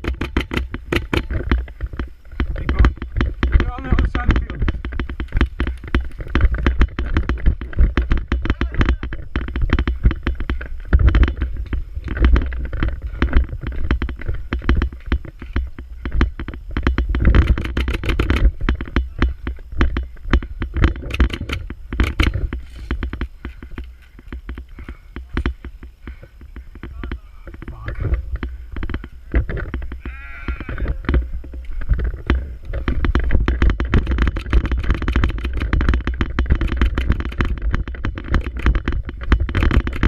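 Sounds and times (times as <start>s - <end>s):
low rumble on microphone: 0.0s - 40.0s
sharp cracks: 0.0s - 40.0s.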